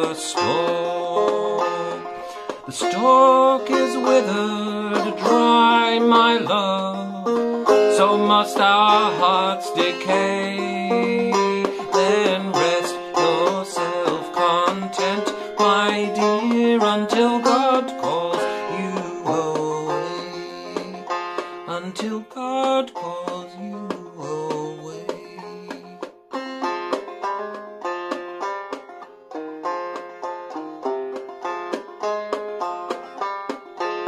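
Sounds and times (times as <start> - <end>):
banjo playing: 0.0 - 34.0.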